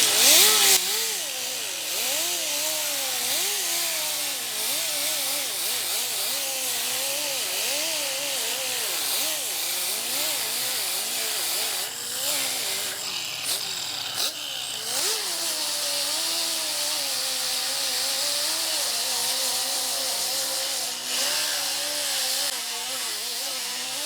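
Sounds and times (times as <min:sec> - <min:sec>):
grinder on sheet metal: 0:00.0 - 0:24.0.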